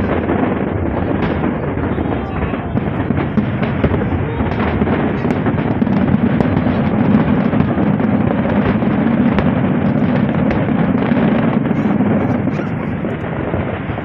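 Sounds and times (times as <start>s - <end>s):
fireworks bangs and crackling: 0.0s - 14.0s.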